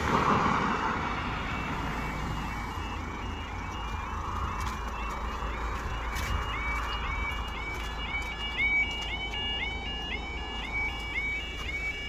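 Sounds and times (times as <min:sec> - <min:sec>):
car tyres on road: 0:00.0 - 0:12.0
level crossing alarm warble: 0:00.0 - 0:12.0.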